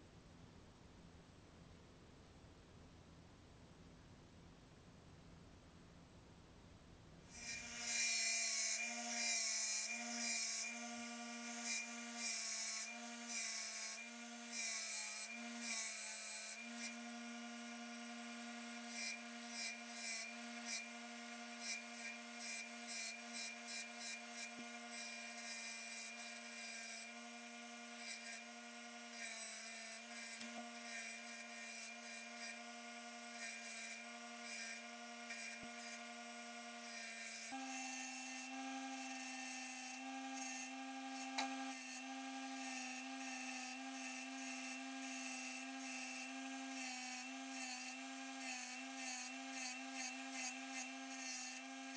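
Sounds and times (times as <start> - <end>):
bench grinder motor hum: 7.3 - 51.9.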